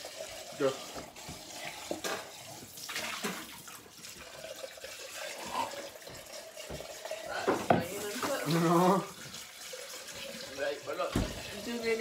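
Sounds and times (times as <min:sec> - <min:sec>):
tap water running into a sink: 0:00.0 - 0:12.0.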